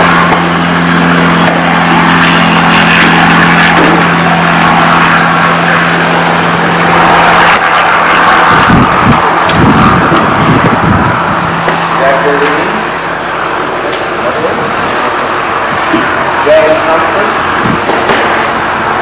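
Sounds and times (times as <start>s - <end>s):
engine drone: 0.0s - 19.0s
low rumbles: 0.0s - 19.0s.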